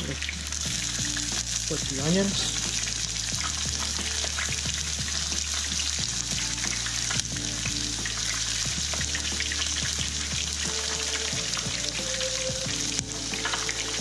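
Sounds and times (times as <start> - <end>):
hot oil sizzling and popping: 0.0 - 14.0.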